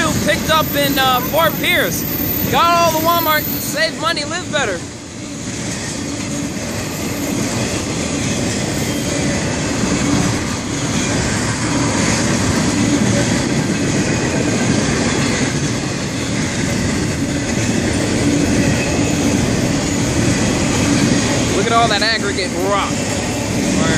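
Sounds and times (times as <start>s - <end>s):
freight train wheels on rails: 0.0s - 23.9s.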